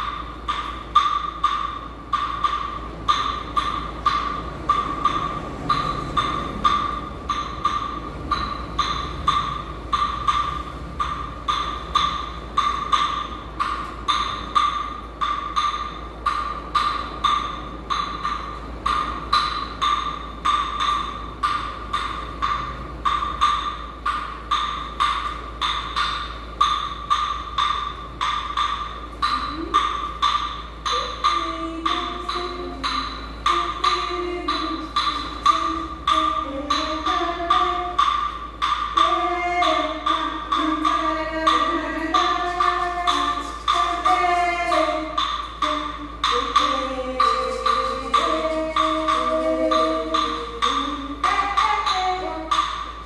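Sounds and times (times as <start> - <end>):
hand percussion wood-block clicks: 0.0 - 53.0.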